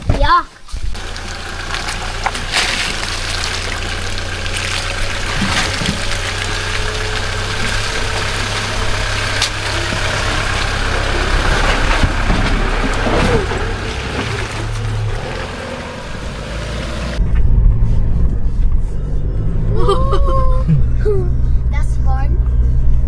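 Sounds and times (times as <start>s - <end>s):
engine humming: 0.0s - 23.0s
road and wind noise: 0.0s - 23.0s.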